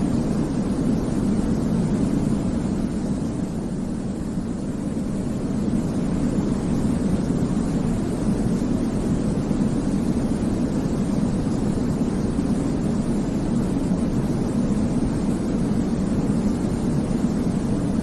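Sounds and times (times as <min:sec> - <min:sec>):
deep white noise hiss: 0:00.0 - 0:18.0.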